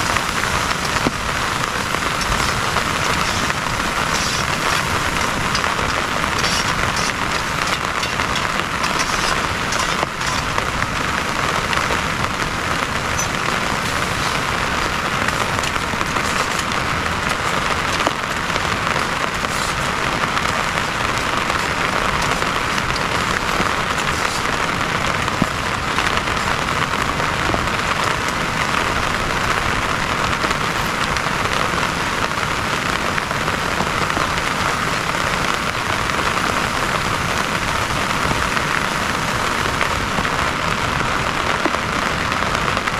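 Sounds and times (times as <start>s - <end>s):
rain falling on a surface: 0.0s - 42.9s.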